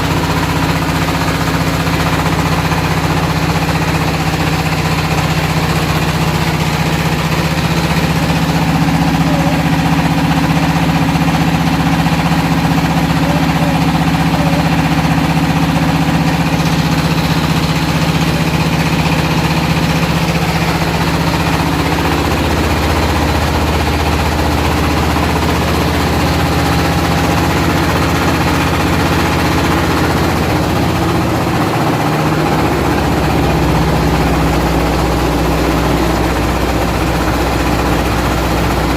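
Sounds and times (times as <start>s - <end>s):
extruder machine drone: 0.0s - 38.9s.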